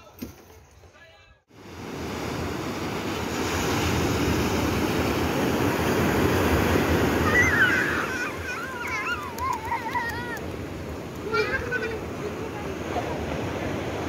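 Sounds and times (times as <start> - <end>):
ocean surf washing onto beach: 1.5 - 14.0.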